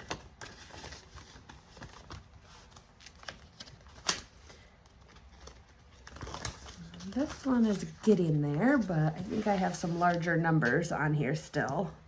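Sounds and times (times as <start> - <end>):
paper rustling: 0.0 - 11.9.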